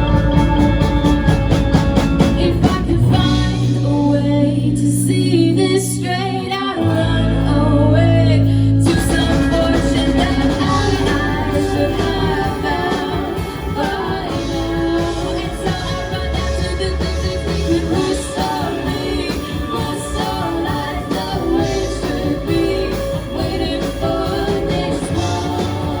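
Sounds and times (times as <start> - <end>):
backing band playing: 0.0 - 7.6, 8.4 - 26.0
person singing: 2.2 - 26.0.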